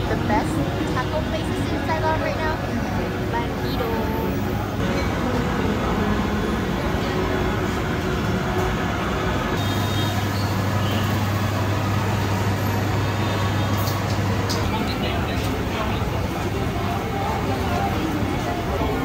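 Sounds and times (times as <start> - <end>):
food hall background din: 0.0 - 19.0.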